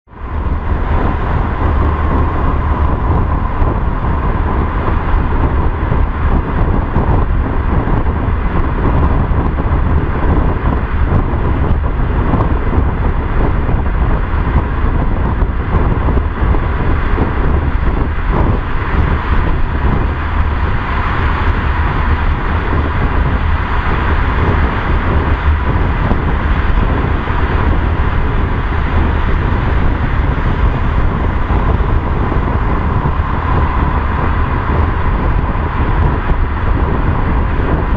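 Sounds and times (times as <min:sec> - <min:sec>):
car tyre and wind noise: 0:00.0 - 0:37.9
faint steady whine: 0:00.1 - 0:37.9.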